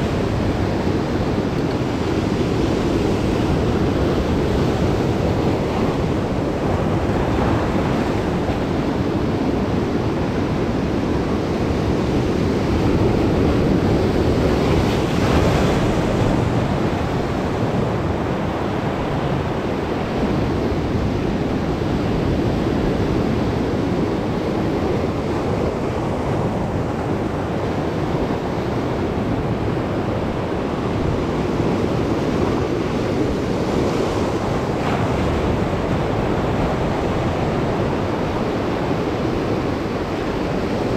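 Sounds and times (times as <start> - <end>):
sea waves breaking over rocks: 0.0 - 40.9.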